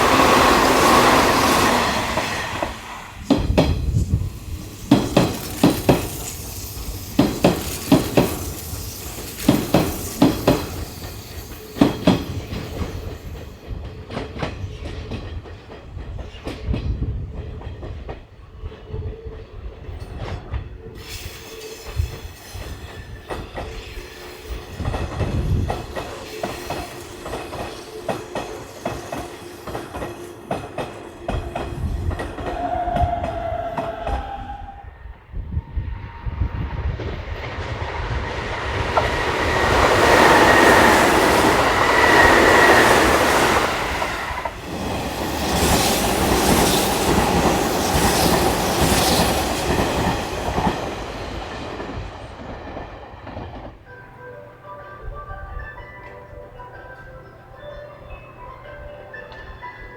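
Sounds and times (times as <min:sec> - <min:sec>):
train wheels clattering over joints: 0:00.0 - 0:34.5, 0:37.0 - 0:54.1.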